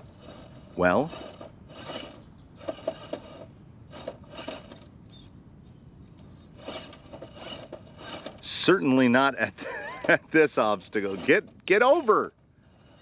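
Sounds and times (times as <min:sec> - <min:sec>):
rc car tires scraping: 0:00.0 - 0:05.3, 0:06.0 - 0:09.2, 0:10.0 - 0:13.0.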